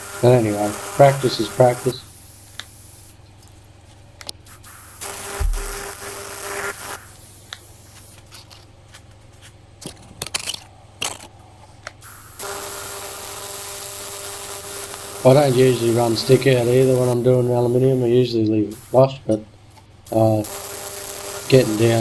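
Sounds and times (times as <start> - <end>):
welding arc buzzing hiss: 0.0 - 3.5, 4.3 - 8.7, 12.0 - 22.0.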